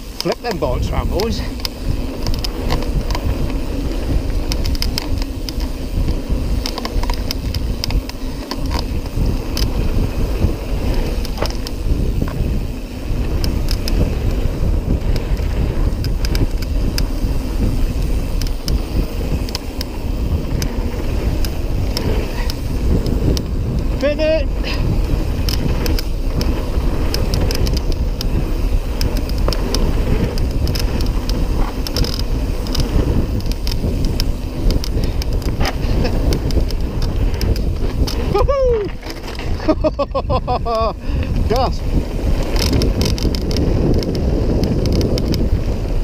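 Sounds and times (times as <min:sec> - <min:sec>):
bike clicking and rattling: 0:00.0 - 0:46.0
bike tyres rumbling on gravel: 0:00.0 - 0:46.0
wind buffeting microphone: 0:00.0 - 0:46.0.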